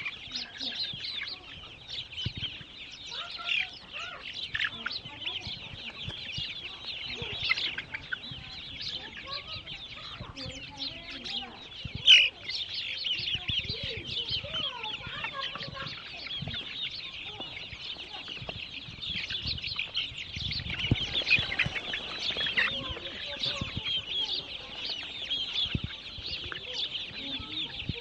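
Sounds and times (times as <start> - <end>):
chickens clucking: 0.0 - 28.0
chickens peeping: 0.0 - 28.0.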